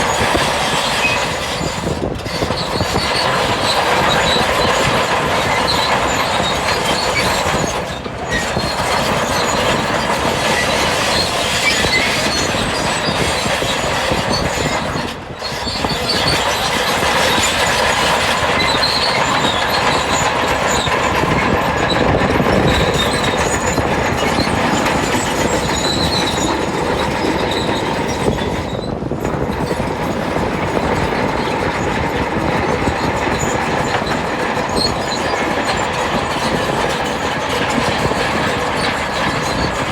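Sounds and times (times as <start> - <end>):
crawler tracks clanking and squealing: 0.0 - 39.9
diesel engine: 0.0 - 39.9.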